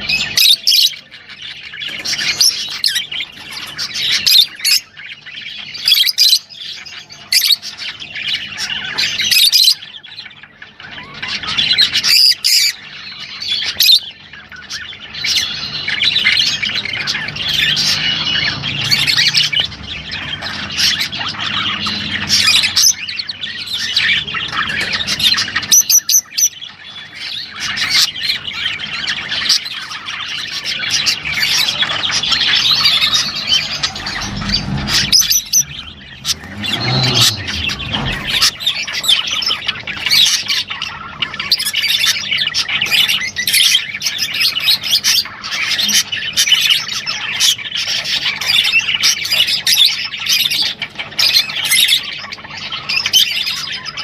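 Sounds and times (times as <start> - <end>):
bird squawks: 0.0 - 54.0
cage birds chattering and chirping: 0.0 - 54.0.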